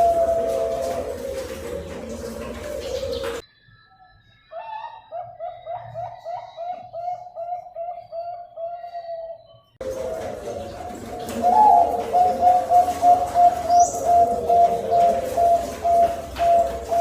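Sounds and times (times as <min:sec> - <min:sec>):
dove cooing: 0:00.0 - 0:03.4, 0:04.6 - 0:17.0.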